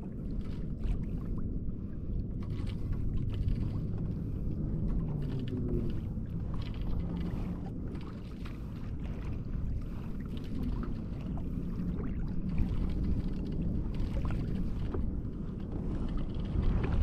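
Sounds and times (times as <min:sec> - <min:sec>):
water lapping against kayak hull: 0:00.0 - 0:17.0
wind rumble on microphone: 0:00.0 - 0:17.0.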